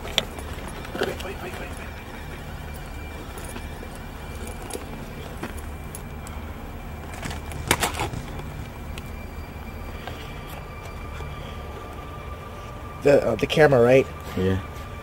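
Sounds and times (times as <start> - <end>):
gear clicking and rattling: 0.0 - 12.1
steady low hum: 0.0 - 15.0.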